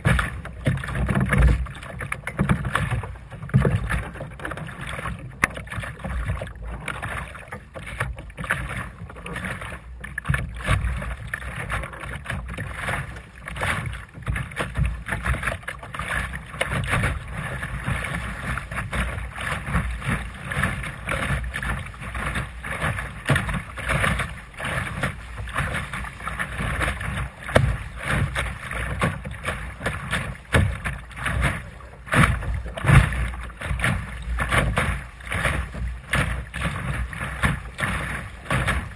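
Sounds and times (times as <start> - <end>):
water slapping against boat hull: 0.0 - 38.9.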